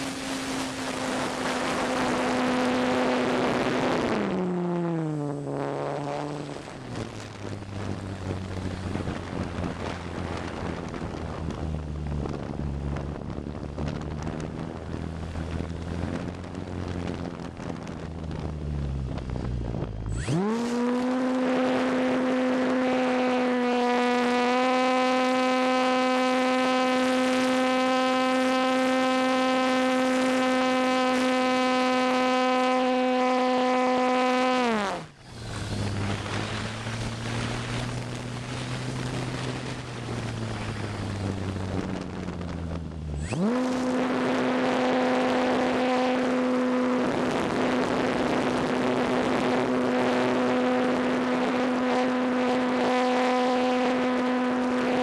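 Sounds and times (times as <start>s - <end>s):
electric motor whine: 0.0s - 13.1s, 13.8s - 55.0s
wind rushing over camera: 0.0s - 55.0s.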